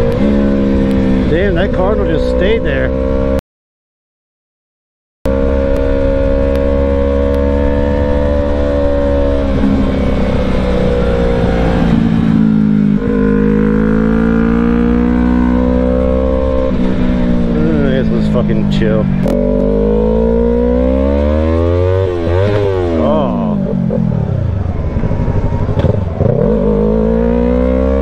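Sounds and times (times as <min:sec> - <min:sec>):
motorcycle engine running: 0:05.3 - 0:28.0.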